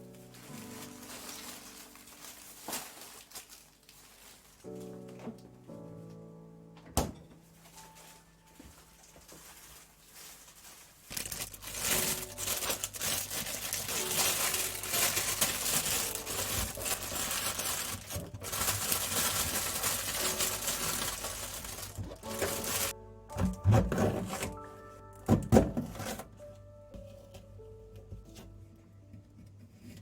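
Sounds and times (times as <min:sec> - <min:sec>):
plastic packaging crinkling: 0:00.0 - 0:05.3, 0:07.5 - 0:26.4.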